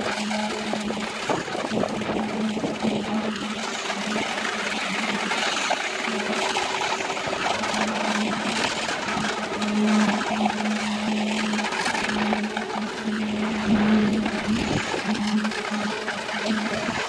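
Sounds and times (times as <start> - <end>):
concrete rushing through hose: 0.0 - 17.0
machine hum: 0.0 - 17.0.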